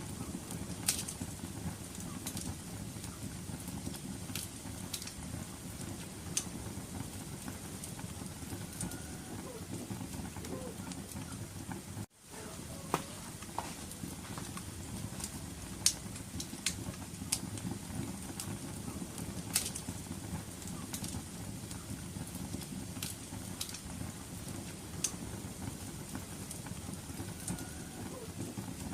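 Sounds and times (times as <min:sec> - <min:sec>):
fire pops and snaps: 0:00.0 - 0:12.1, 0:12.8 - 0:28.9
low rumble of burning: 0:00.0 - 0:28.9.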